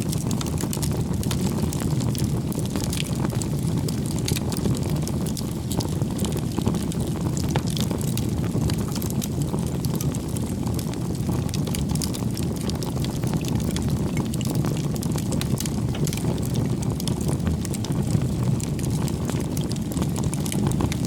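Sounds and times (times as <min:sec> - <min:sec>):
bonfire flames rumbling: 0:00.0 - 0:21.0
burning wood crackling: 0:00.0 - 0:21.0.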